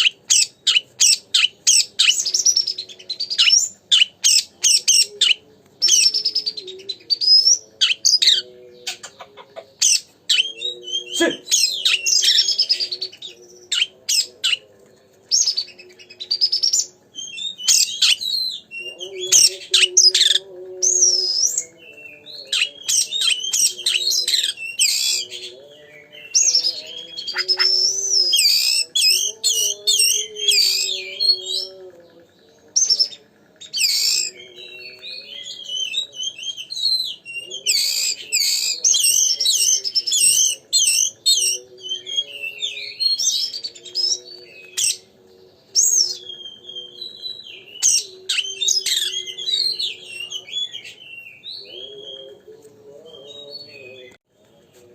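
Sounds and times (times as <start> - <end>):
bird singing whistles and trills: 0.0 - 9.1, 9.8 - 14.6, 15.3 - 31.8, 32.6 - 52.5.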